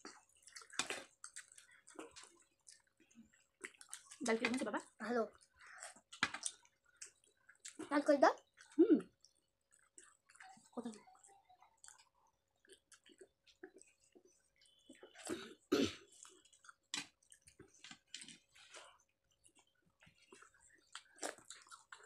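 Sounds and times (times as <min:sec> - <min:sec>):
chewing and mouth smacks: 0:00.0 - 0:22.0.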